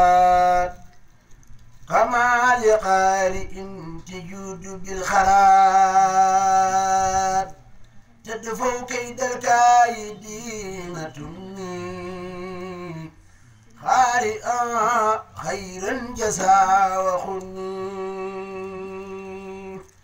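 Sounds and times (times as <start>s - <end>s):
man chanting religious verse: 0.0s - 0.9s, 1.8s - 7.6s, 8.2s - 19.9s.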